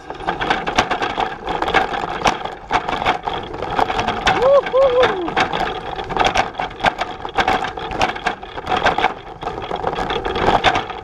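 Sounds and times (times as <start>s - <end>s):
cargo bike rattling over bumps: 0.0s - 11.0s.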